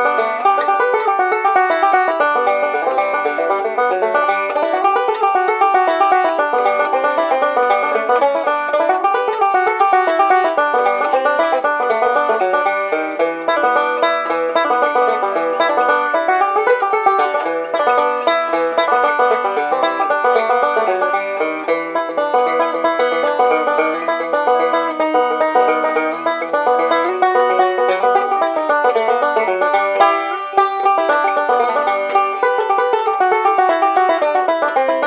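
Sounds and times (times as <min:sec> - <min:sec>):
banjo picking: 0:00.0 - 0:35.0.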